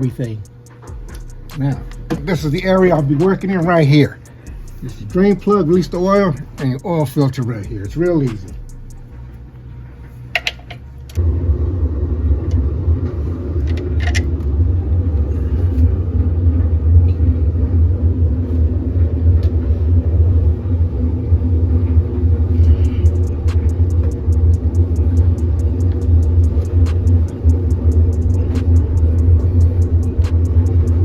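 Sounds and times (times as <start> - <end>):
steady hum: 0.0 - 31.0
steady low rumble: 0.0 - 31.0.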